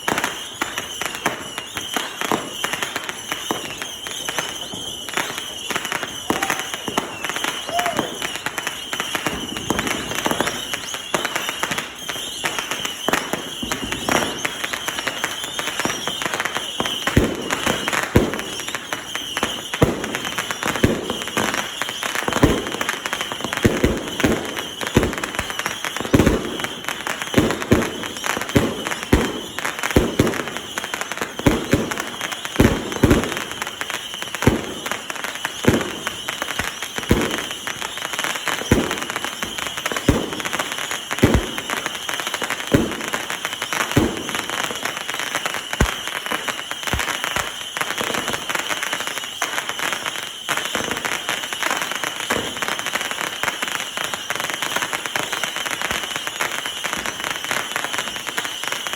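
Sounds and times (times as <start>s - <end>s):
fireworks crackling: 0.0s - 58.9s
fireworks shots and bangs: 0.0s - 58.9s.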